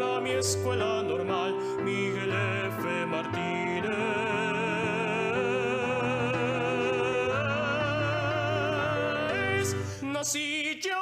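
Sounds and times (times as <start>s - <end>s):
instrumental accompaniment: 0.0s - 10.2s
person singing with vibrato: 0.0s - 11.0s.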